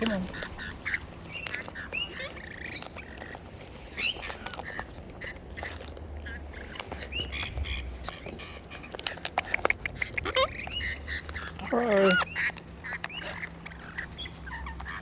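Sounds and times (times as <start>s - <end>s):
birds making nasal calls: 0.0s - 15.0s.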